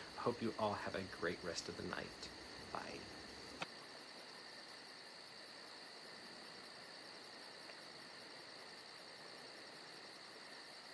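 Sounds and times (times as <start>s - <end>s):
crickets chirring: 0.0s - 10.9s.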